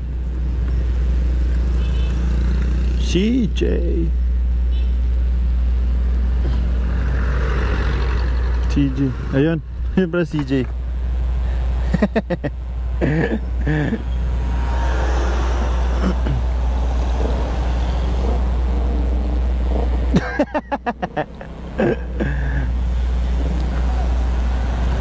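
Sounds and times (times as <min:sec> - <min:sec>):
road vehicle noise: 0:00.0 - 0:25.0
steady low rumble: 0:00.0 - 0:25.0.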